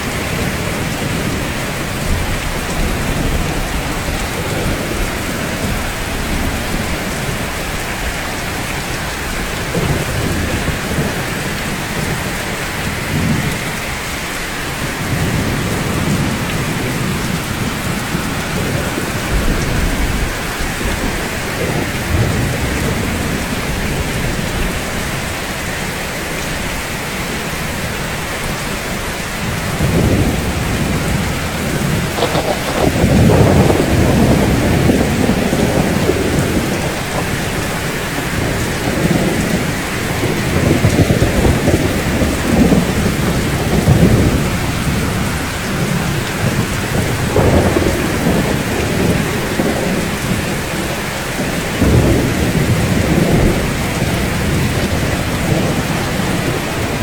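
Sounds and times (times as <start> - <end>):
thunder rumbling: 0.0 - 25.6, 27.2 - 57.0
heavy rain on roofs: 0.0 - 57.0.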